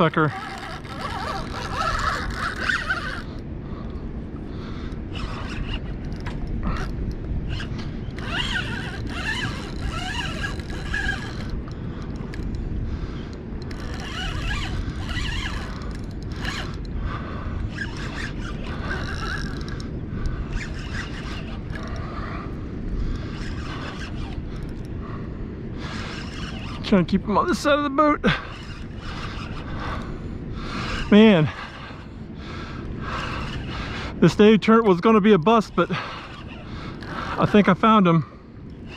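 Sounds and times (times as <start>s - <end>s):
fishing reel drag buzzing: 0.0s - 38.0s.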